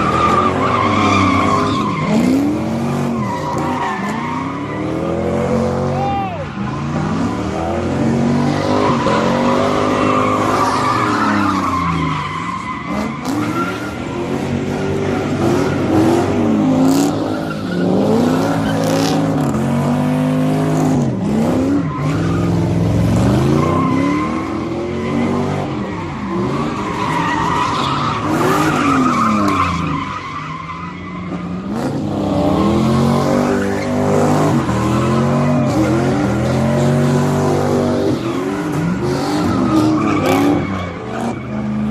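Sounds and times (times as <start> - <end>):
car engine revving: 0.0 - 41.9
tyres squealing and skidding: 0.0 - 41.9.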